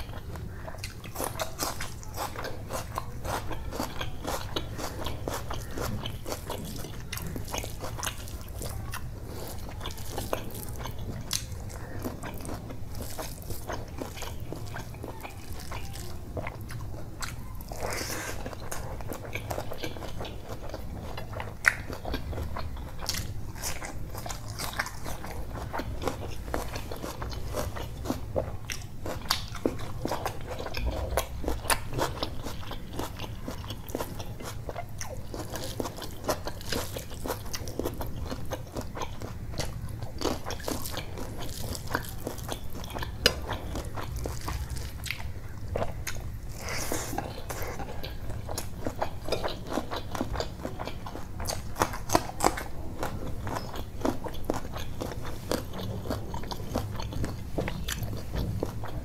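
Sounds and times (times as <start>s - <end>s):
low steady hum: 0.0s - 59.0s
person chewing food: 0.0s - 59.0s.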